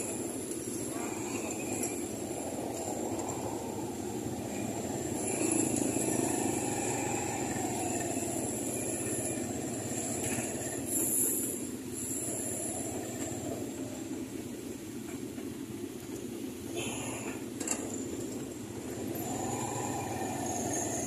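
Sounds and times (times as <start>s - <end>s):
motorcycle and scooter engines: 0.0s - 21.0s
road and traffic noise: 0.0s - 21.0s.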